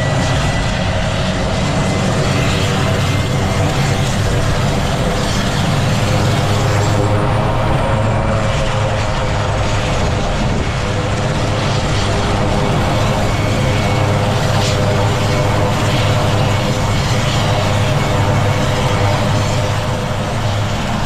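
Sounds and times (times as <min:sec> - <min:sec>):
helicopter turbines and rotor: 0:00.0 - 0:21.0.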